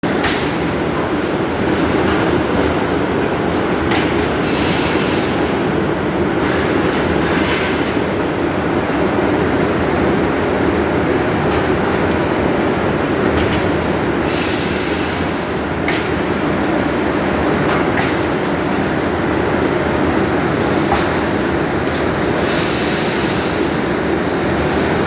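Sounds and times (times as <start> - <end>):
rolling mill machinery rumble: 0.0 - 25.0.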